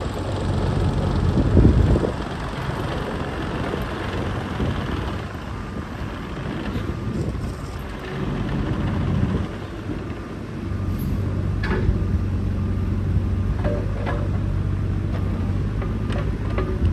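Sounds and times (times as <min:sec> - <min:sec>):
diesel engine rumbling: 0:00.0 - 0:16.9.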